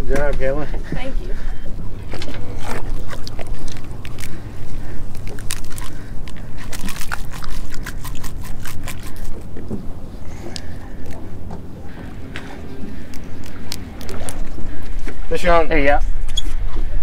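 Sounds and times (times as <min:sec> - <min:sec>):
steady low rumble: 0:00.0 - 0:17.0
water lapping against boat: 0:00.8 - 0:15.3.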